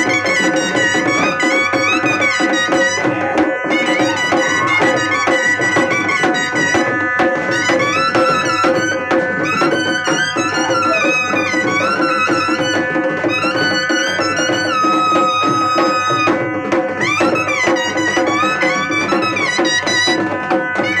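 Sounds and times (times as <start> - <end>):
barrel drum beaten with stick: 0.0 - 21.0
shehnai folk melody: 0.0 - 21.0.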